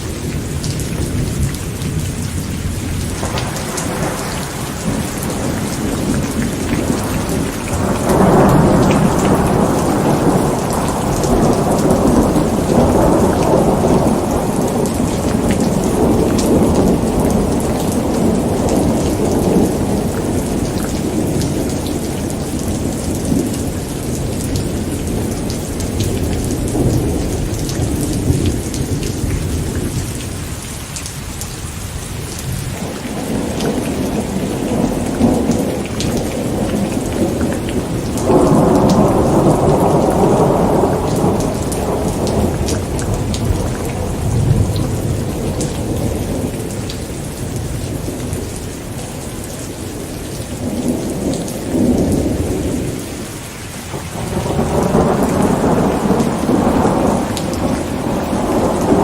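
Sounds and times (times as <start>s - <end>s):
thunder rumbling: 0.0s - 30.7s, 31.8s - 53.3s, 53.9s - 59.0s
heavy rain pattering: 0.0s - 59.0s.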